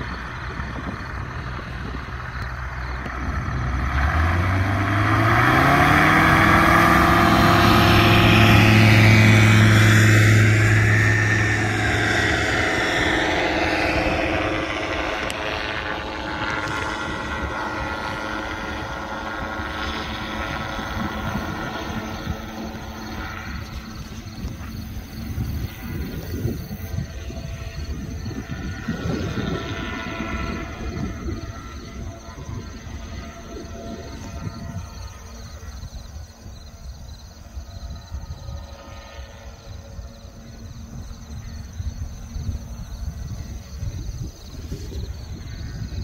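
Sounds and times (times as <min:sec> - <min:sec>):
small plane engine and propeller: 0:00.0 - 0:46.0.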